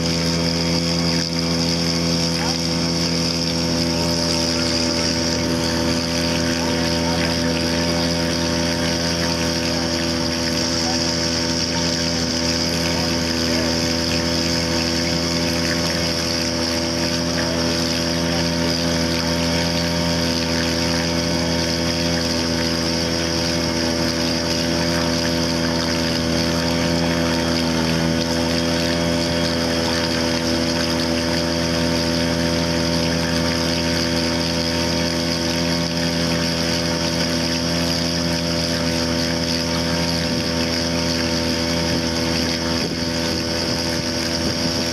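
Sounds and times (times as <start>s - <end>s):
outboard motor running: 0.0s - 44.9s.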